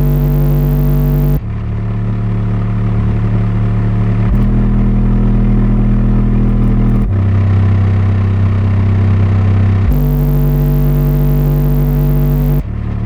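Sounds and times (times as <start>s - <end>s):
subwoofer playing deep bass tones: 0.0s - 13.0s.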